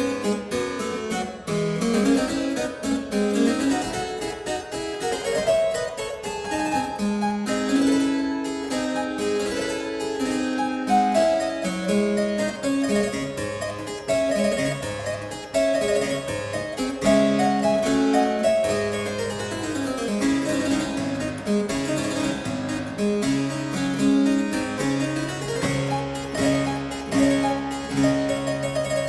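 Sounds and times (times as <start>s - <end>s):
harpsichord music: 0.0s - 29.0s.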